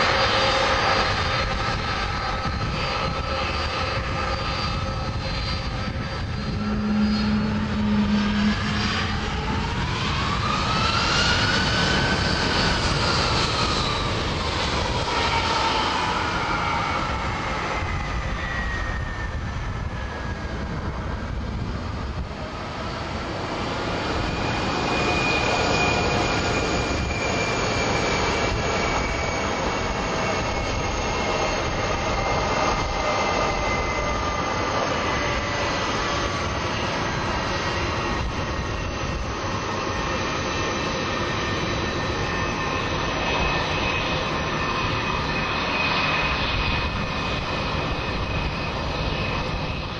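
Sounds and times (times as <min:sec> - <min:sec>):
aircraft engine whining: 0:00.0 - 0:49.9.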